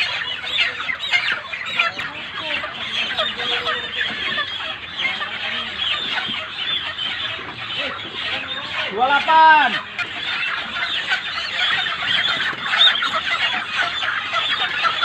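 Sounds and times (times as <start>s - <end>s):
chickens chirping and clucking: 0.0s - 15.0s.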